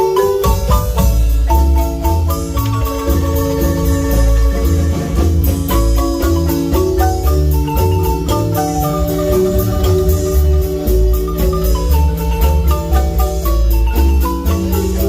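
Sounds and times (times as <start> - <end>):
bass line: 0.0 - 15.0
marimba melody: 0.0 - 15.0.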